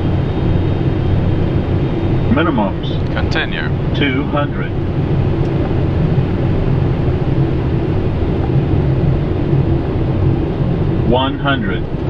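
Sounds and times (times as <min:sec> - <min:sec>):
jet engine noise: 0:00.0 - 0:12.0
low hum: 0:00.0 - 0:12.0.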